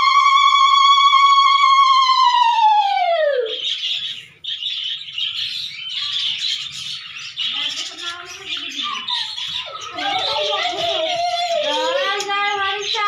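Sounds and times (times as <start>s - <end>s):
cage birds chirping: 0.0s - 13.0s.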